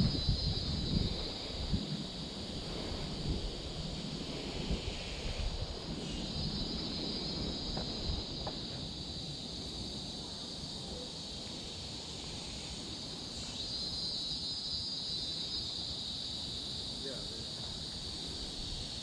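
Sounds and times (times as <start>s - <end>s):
shrill insect drone: 0.0s - 19.0s.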